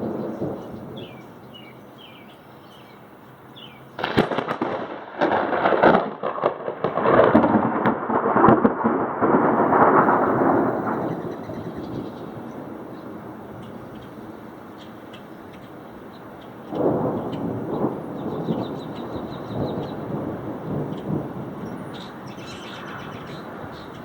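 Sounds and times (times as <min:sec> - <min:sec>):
thunder crack: 0:00.0 - 0:02.2, 0:04.0 - 0:14.4, 0:16.5 - 0:24.0
rolling thunder rumble: 0:00.0 - 0:24.0.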